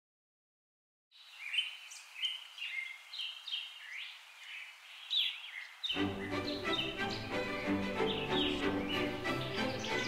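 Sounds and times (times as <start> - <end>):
birds chirping and whistling: 1.2 - 10.0.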